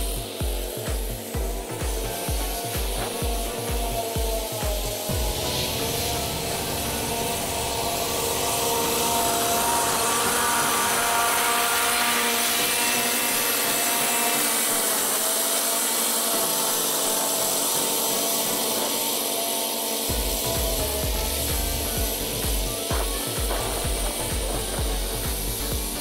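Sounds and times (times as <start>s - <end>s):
lawn mower engine running: 0.0s - 26.0s
mower blades cutting grass: 0.0s - 26.0s.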